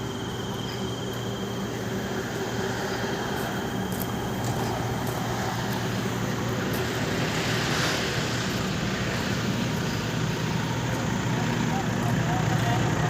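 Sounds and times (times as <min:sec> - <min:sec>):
truck diesel engine humming: 0:00.0 - 0:13.0.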